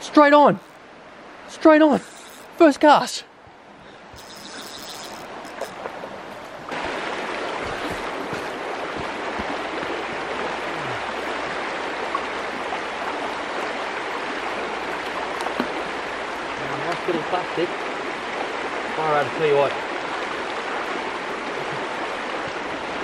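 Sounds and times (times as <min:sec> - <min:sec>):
stream rushing over stones: 0:00.0 - 0:23.0.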